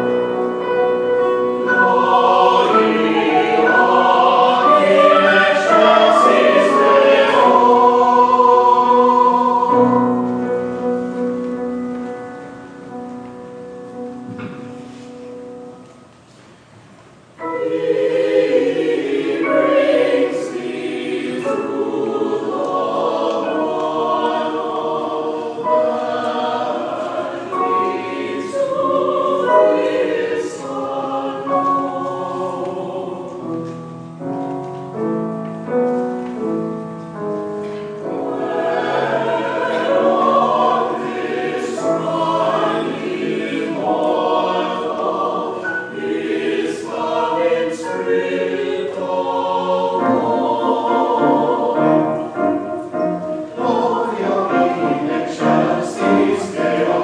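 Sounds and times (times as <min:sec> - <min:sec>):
choir singing a hymn: 0:00.0 - 0:15.8, 0:17.4 - 0:57.0.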